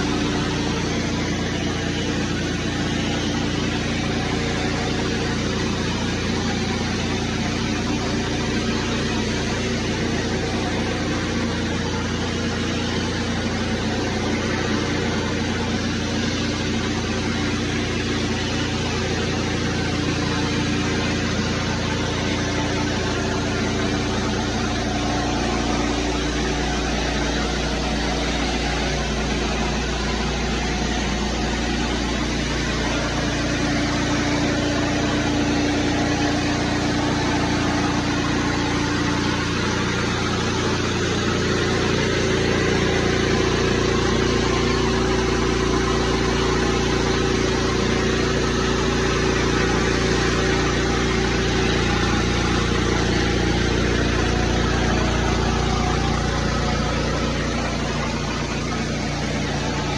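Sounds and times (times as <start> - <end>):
high-pressure water on concrete: 0.0 - 59.9
pressure washer engine running: 0.0 - 59.9.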